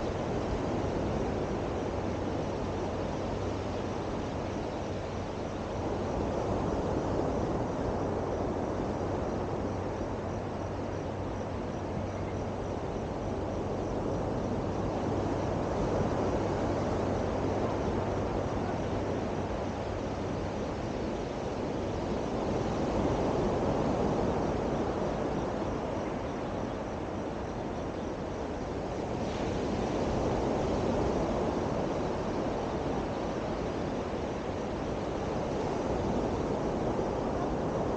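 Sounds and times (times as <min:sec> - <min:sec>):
wind: 0:00.0 - 0:37.9.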